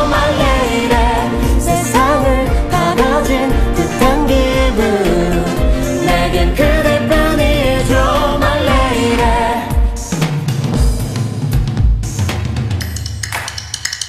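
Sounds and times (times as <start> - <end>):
drum beat and bass: 0.0 - 14.0.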